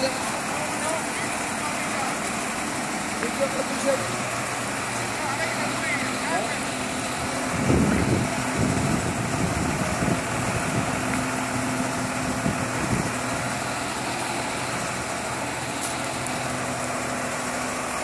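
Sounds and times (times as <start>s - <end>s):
heavy vehicle engine idling: 0.0s - 18.0s.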